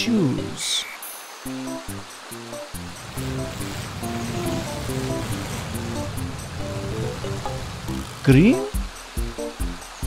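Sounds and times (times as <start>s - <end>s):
music with light percussion: 0.2s - 10.0s
steady rushing hiss: 0.6s - 10.0s.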